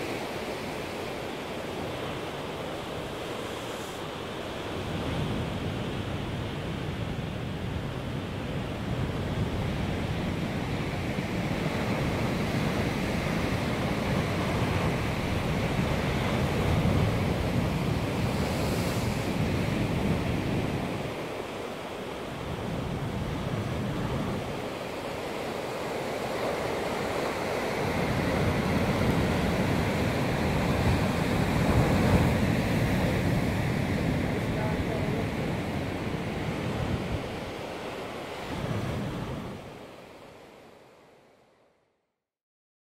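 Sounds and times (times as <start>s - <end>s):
sea surf breaking against cliffs: 0.0s - 41.2s.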